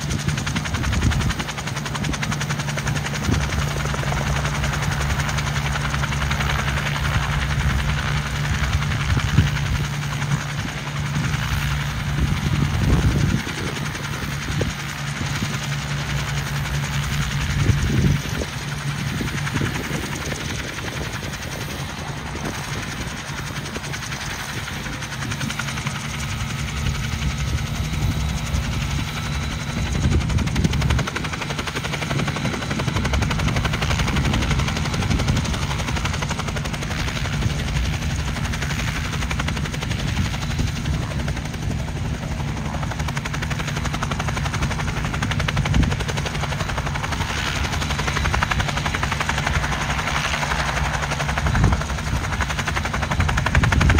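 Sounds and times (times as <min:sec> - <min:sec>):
helicopter piston engine drone: 0:00.0 - 0:53.9.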